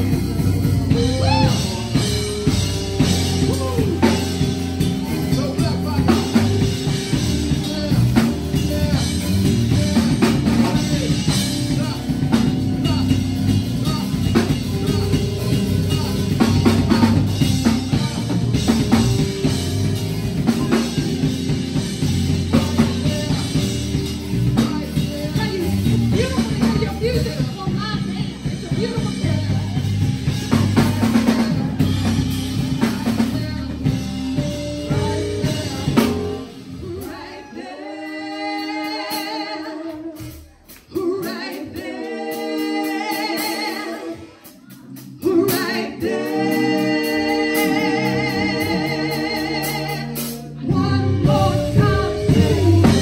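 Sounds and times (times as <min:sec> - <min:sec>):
drum kit playing: 0:00.0 - 0:53.0.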